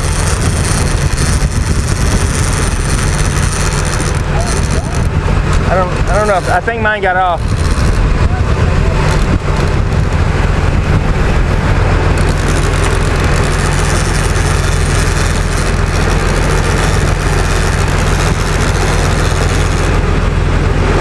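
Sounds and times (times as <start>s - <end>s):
boat engine droning: 0.0s - 21.0s
wind and water rushing: 0.0s - 21.0s.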